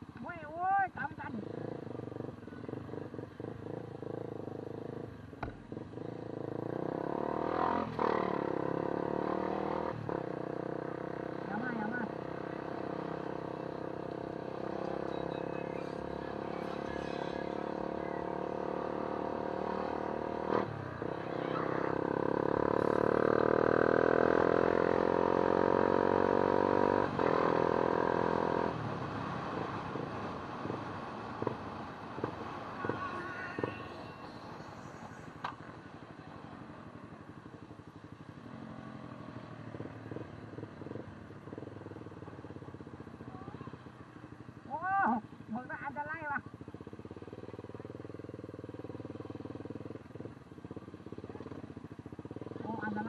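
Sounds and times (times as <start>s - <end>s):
motorcycle engine accelerating: 1.3s - 53.0s.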